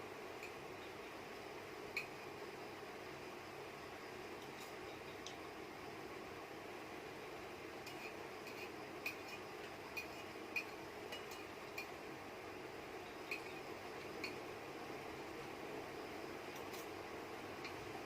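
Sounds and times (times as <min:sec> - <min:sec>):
low background hiss: 0:00.0 - 0:18.0.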